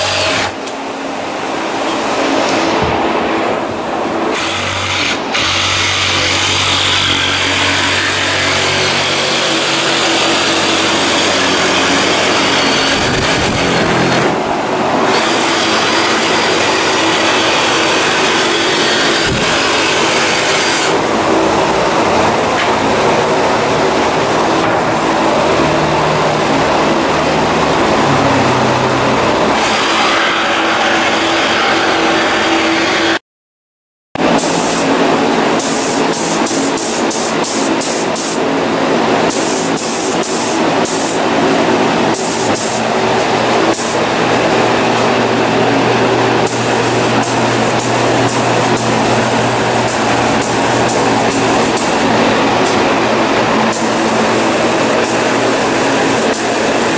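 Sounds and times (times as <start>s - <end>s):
loud machine noise: 0.0s - 33.2s, 34.2s - 56.9s.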